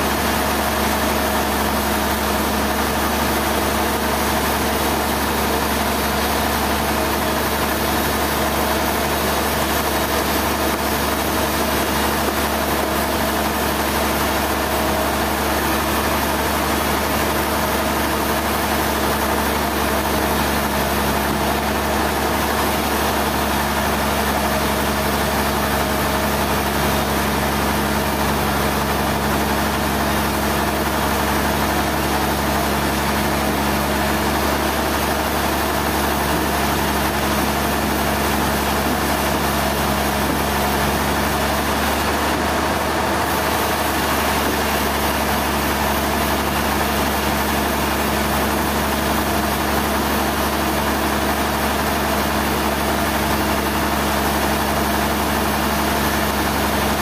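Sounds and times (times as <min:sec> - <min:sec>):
machine motor humming steadily: 0:00.0 - 0:57.0.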